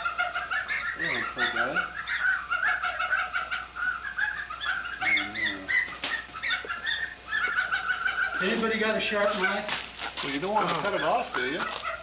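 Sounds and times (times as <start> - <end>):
chickens clucking and squawking: 0.0 - 12.0.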